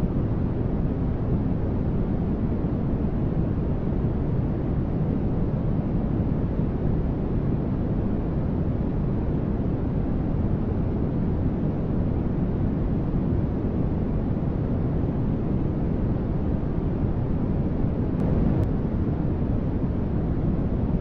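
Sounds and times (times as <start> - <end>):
deep soft static noise: 0.0 - 21.0.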